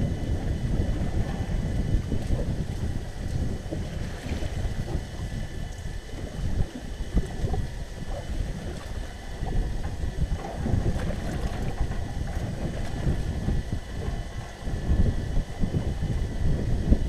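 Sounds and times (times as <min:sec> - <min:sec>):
water slapping boat hull: 0:00.0 - 0:17.0
wind buffeting microphone: 0:00.0 - 0:17.0.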